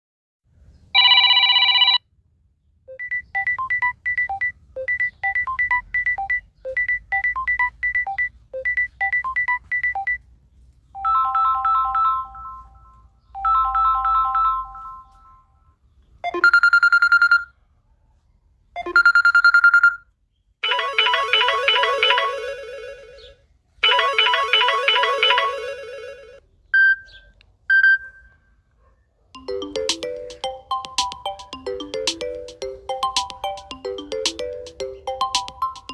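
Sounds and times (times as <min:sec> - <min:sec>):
mobile phone ringtones: 0:01.0 - 0:02.0, 0:02.9 - 0:10.2, 0:11.0 - 0:15.5, 0:16.2 - 0:17.5, 0:18.8 - 0:27.1, 0:29.4 - 0:35.9.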